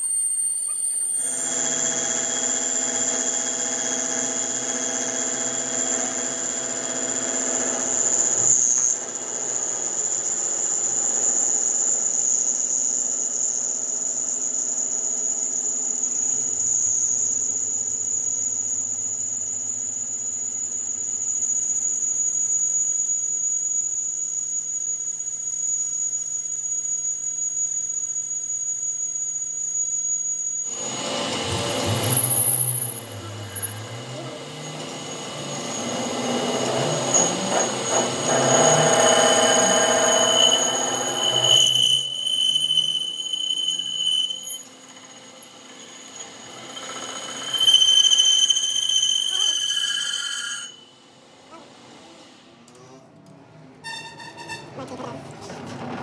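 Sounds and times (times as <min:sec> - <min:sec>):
high-pitched machine squeal: 0:00.0 - 0:52.0, 0:53.8 - 0:55.0.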